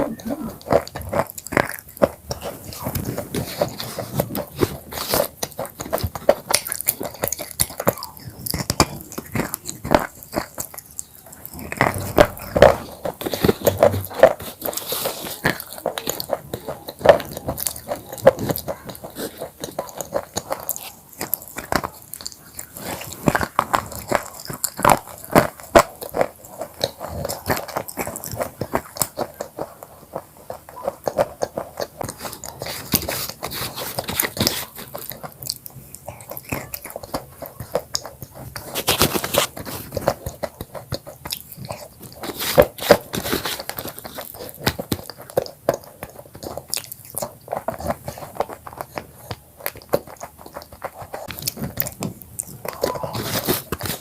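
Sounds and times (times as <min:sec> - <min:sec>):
crunching of chips being chewed: 0:00.0 - 0:54.0.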